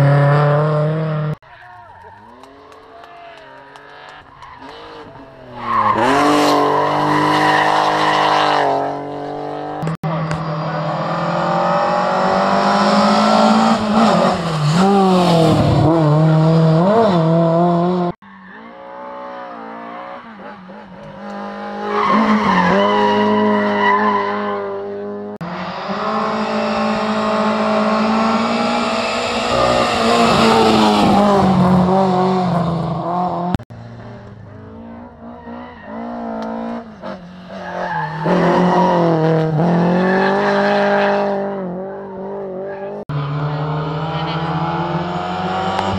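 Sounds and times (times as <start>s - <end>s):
rally car engine revving: 0.0s - 1.4s, 2.3s - 45.9s.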